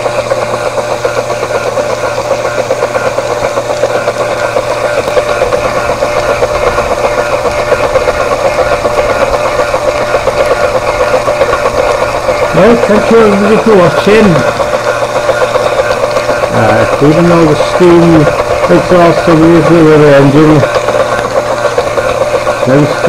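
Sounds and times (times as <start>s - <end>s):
steady hum: 0.0s - 23.0s
steam engine beating: 0.0s - 23.0s.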